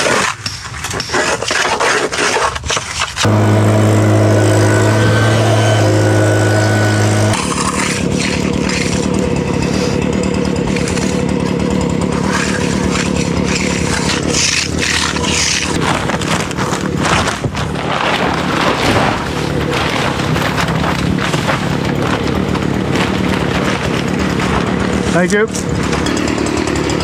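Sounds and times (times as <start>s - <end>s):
scraping and knocking noises: 0.0s - 27.0s
small engine running: 3.2s - 27.0s.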